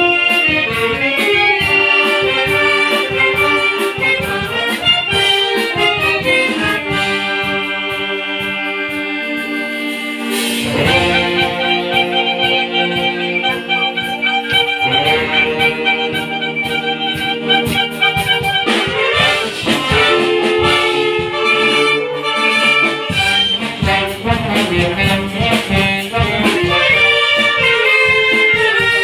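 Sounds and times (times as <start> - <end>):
wind band playing: 0.0 - 29.0.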